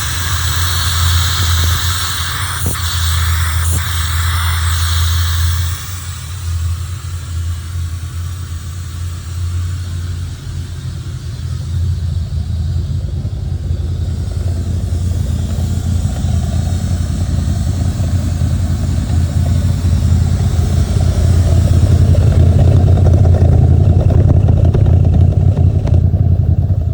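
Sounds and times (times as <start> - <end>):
car engine idling roughly: 0.0 - 26.9.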